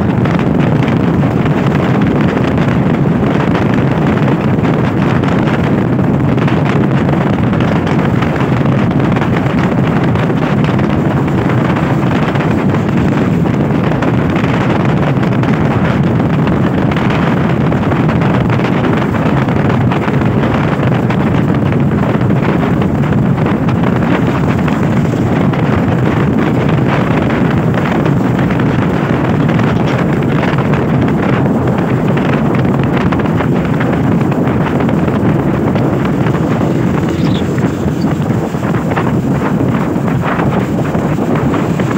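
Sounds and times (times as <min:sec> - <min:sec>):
motorcycle running: 0:00.0 - 0:41.9
wind rushing over microphone: 0:00.0 - 0:41.9.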